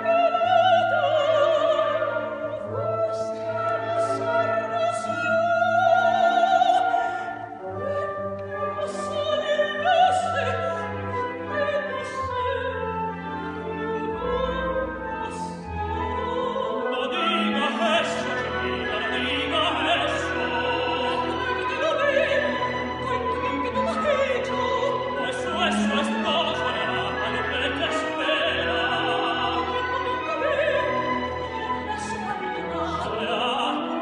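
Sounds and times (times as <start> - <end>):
operatic soprano singing: 0.0 - 34.0
symphony orchestra: 0.0 - 34.0
tenor singing: 0.0 - 34.0.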